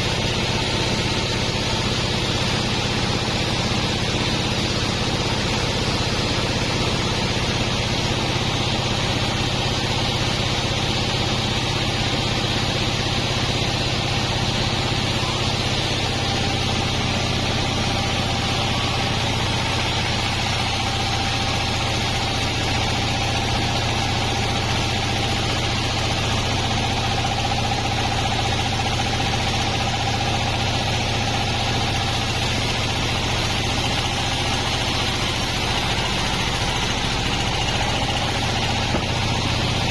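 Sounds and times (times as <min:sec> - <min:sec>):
band saw machine hum: 0:00.0 - 0:39.9.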